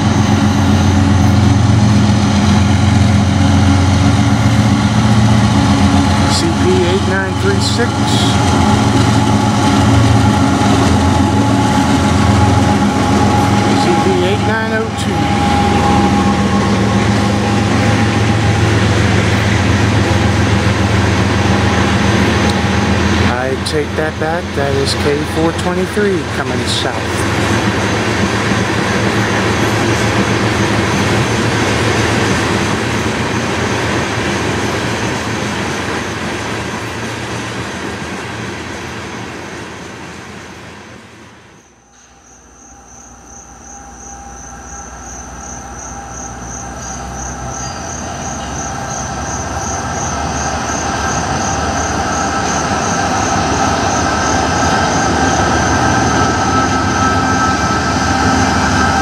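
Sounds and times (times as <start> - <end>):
steady high-pitched tones: 0.0 - 33.3, 41.6 - 59.0
freight train rumbling: 0.0 - 59.0.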